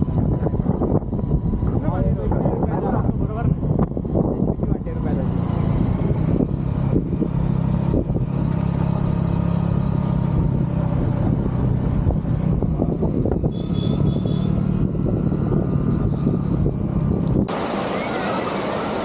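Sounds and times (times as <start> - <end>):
wind rushing over microphone: 0.0 - 8.6, 10.2 - 19.0
motorcycle engine cruising: 0.0 - 19.0.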